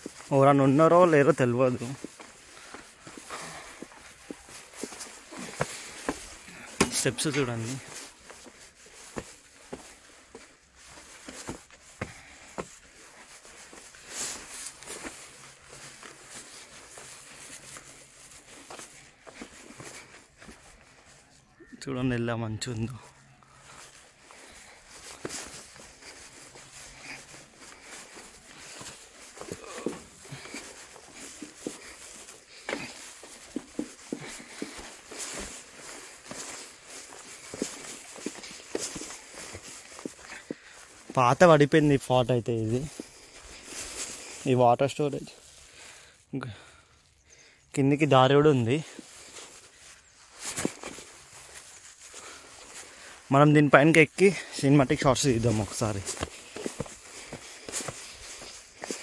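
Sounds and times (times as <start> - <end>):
footsteps on steps: 0.0 - 21.2, 23.5 - 42.1, 42.7 - 44.5, 48.8 - 53.2, 54.3 - 59.0.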